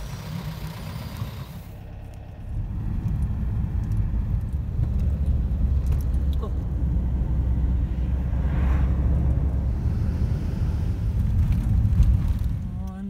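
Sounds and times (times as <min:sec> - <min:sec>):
engine and road rumble inside vehicle: 0:00.0 - 0:13.0.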